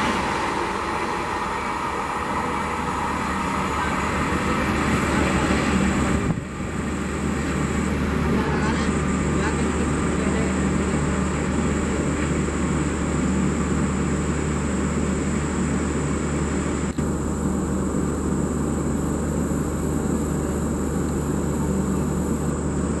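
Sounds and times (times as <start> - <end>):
train machinery hum: 0.0 - 23.0.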